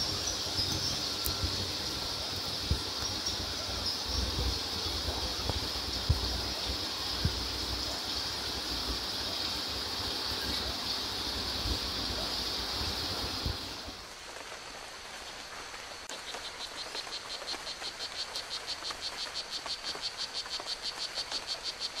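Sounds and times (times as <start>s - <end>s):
chirping chorus of frogs or crickets: 0.0s - 14.1s, 15.4s - 22.0s
high-pitched hiss: 0.0s - 22.0s.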